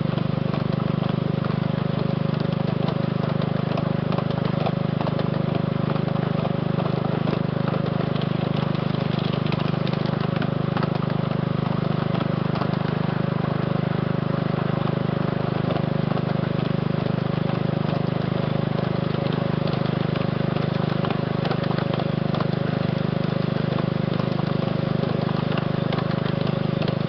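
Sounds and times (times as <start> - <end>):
locomotive engine running: 0.0 - 27.0.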